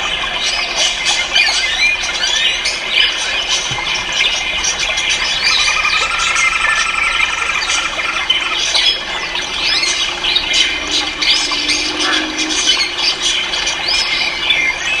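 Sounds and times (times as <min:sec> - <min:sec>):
chorus of birds chirping: 0:00.0 - 0:15.0
bird trill: 0:00.6 - 0:15.0.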